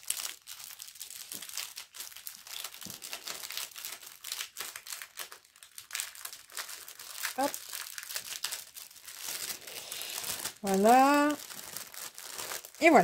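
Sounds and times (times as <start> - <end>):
plastic packets crinkling: 0.0 - 13.0.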